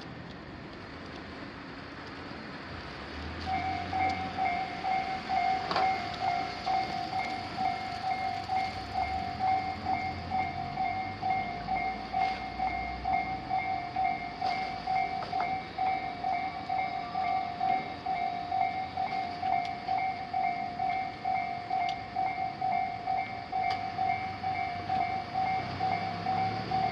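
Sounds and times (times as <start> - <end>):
railroad crossing warning bell: 3.2 - 26.9.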